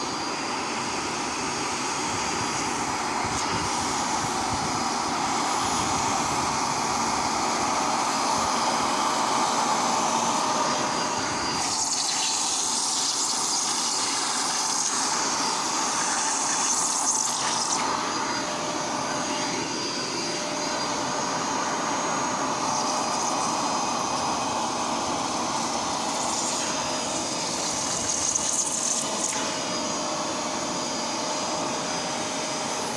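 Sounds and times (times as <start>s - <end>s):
vacuum cleaner motor whining: 0.0s - 32.9s.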